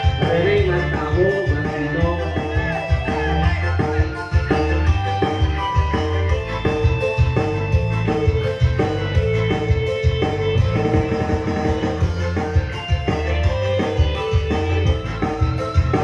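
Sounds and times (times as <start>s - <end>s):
drum beats: 0.0s - 16.0s
heavy bass line: 0.0s - 16.0s
plucked guitar notes: 0.0s - 16.0s.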